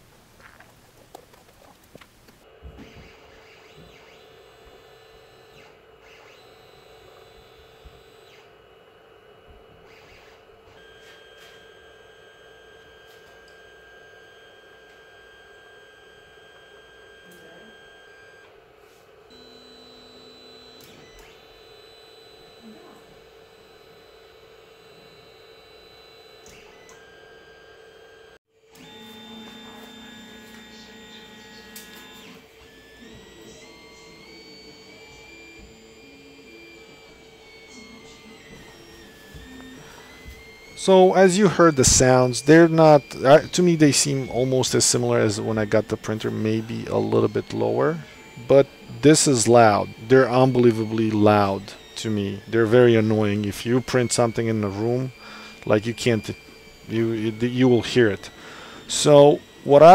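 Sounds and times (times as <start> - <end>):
printer humming: 0.0 - 59.9
stepper motor whines: 0.4 - 59.9.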